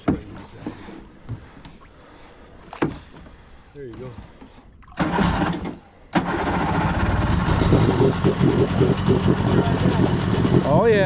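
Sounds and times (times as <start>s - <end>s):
boat motor starting and running: 0.0s - 11.0s
water churning: 0.0s - 11.0s.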